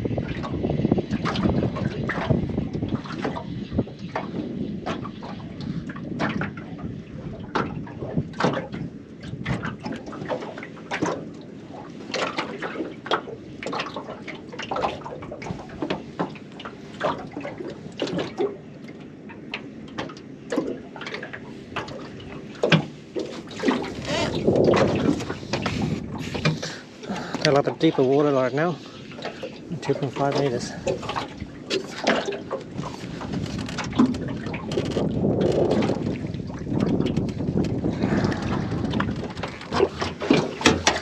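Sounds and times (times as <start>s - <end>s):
short sharp splashes and knocks: 0.0s - 41.0s
water lapping against boat hull: 0.0s - 41.0s.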